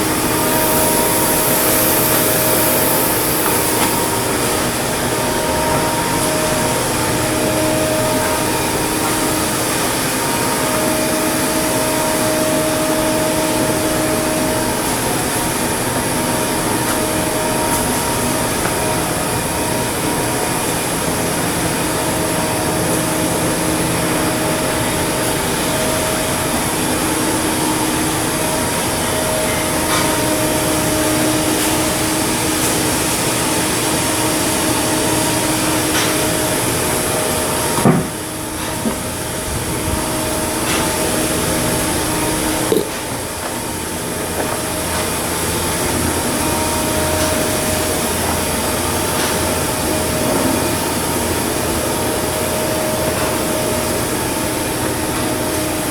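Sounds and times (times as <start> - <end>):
machinery hiss and hum: 0.0 - 55.9.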